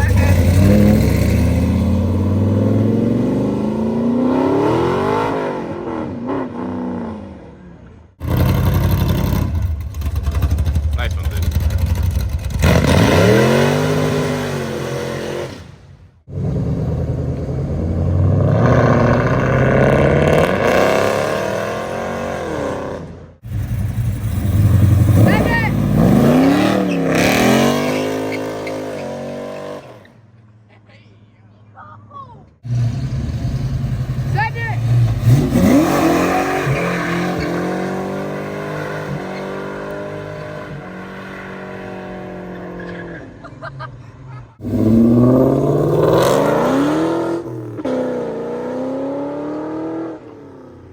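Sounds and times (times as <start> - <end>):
muscle car engines accelerating: 0.0 - 30.5, 32.5 - 50.9.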